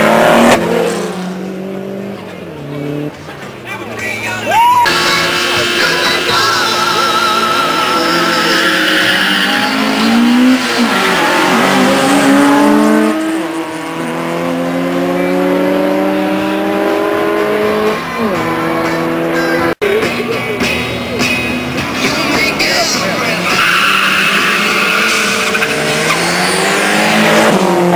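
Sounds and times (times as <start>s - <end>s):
racing car engines revving: 0.0s - 27.9s.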